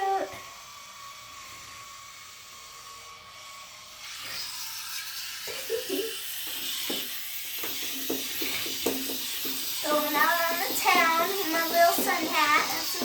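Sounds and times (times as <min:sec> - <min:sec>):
toy motor whining: 0:00.0 - 0:13.0.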